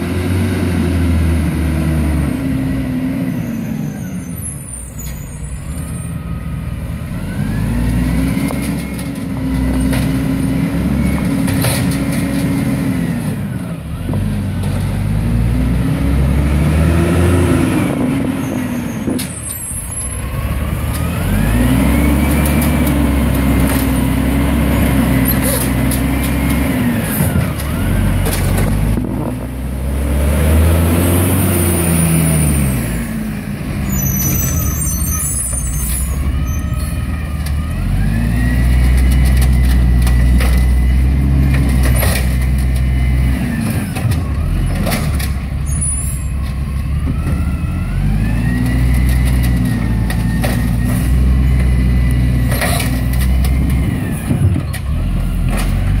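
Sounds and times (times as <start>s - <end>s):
garbage truck engine revving: 5.6s - 56.0s.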